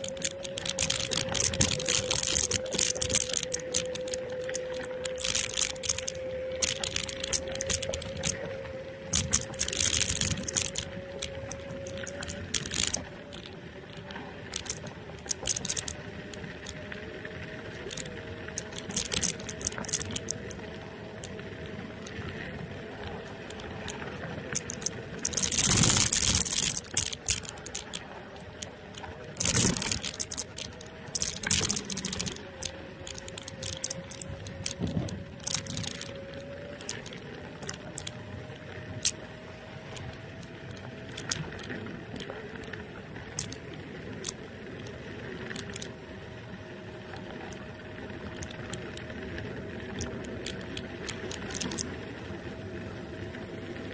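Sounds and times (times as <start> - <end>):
electric scooter motor whine: 0.0 - 30.0, 31.7 - 53.9
scooter clicking and rattling: 0.0 - 52.8.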